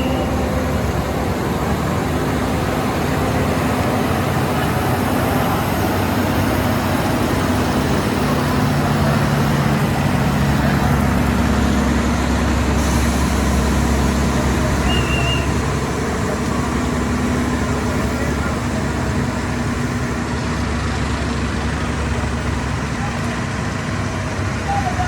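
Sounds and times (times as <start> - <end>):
heavy truck engine drone: 0.0 - 25.0.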